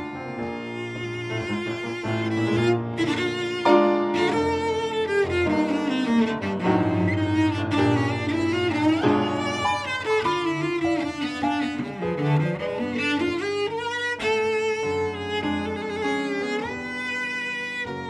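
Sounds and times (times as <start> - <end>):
bowed cello melody: 0.0 - 18.0
piano accompaniment: 0.0 - 18.0.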